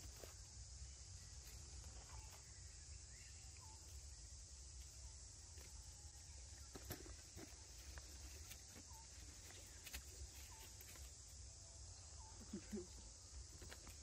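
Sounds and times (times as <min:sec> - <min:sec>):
high insect hiss: 0:00.0 - 0:14.0.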